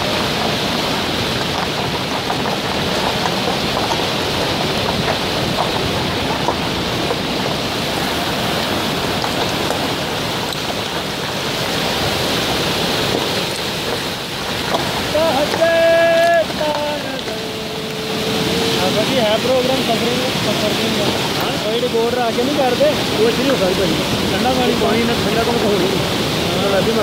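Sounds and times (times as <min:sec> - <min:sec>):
river rushing over boulders: 0:00.0 - 0:27.0.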